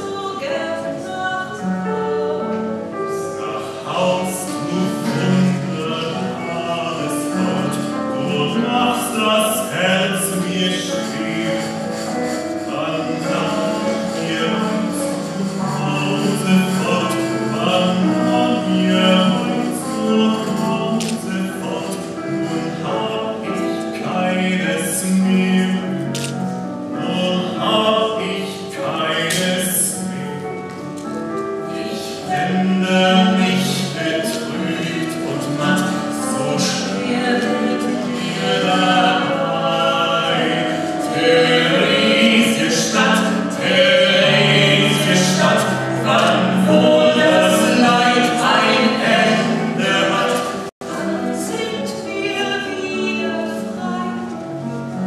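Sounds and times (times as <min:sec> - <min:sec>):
man and woman singing: 0:00.0 - 0:26.3, 0:26.9 - 0:30.7, 0:31.6 - 0:54.3.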